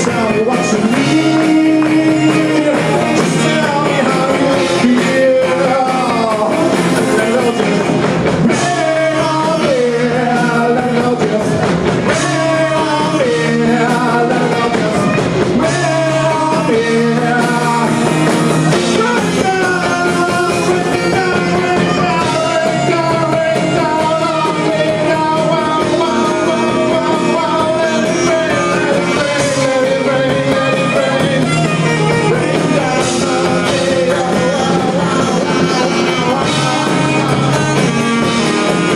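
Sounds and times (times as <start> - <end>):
live rock band playing: 0.0 - 38.9
man singing lead vocals: 0.0 - 38.9.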